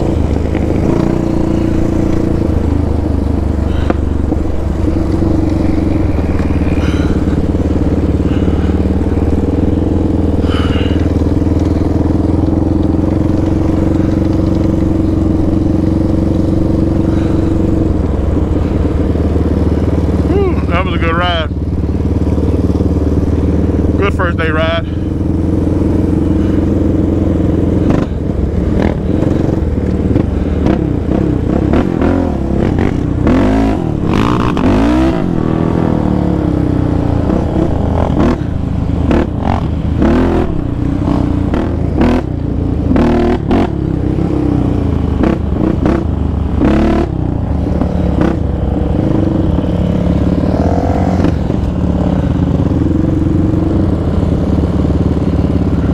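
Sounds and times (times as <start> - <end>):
quad engine revving: 0.0 - 55.9.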